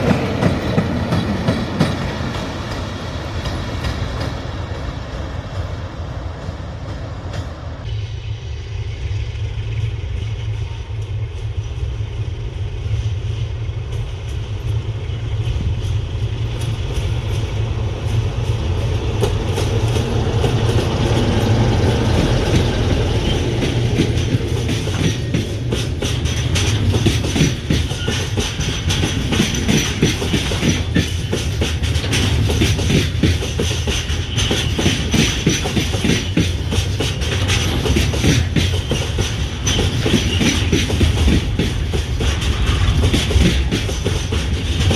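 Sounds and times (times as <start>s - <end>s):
train wheels clattering over rails: 0.0s - 7.9s, 13.2s - 44.9s
locomotive engine drone: 0.0s - 44.9s.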